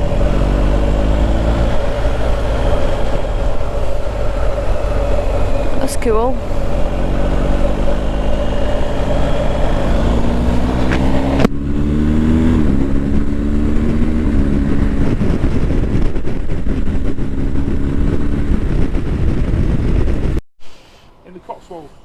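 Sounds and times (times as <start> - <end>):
motorcycle engine running: 0.0 - 20.4
wind rumble on microphone: 0.0 - 20.4.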